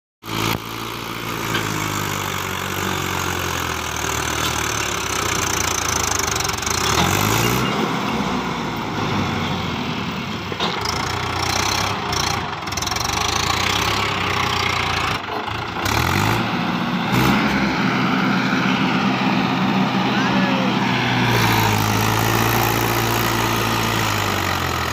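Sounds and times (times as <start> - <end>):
tractor diesel engine revving: 0.2 - 24.9.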